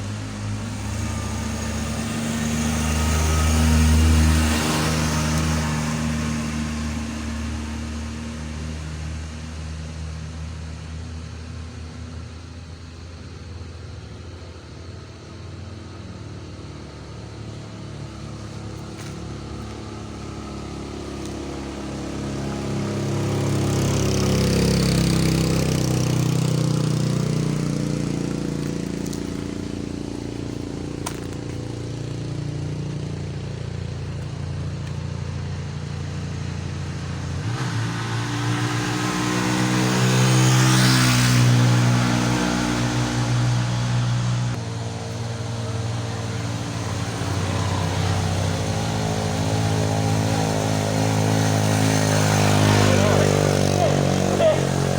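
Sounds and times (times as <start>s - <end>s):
vehicles labouring uphill: 0.0s - 54.9s.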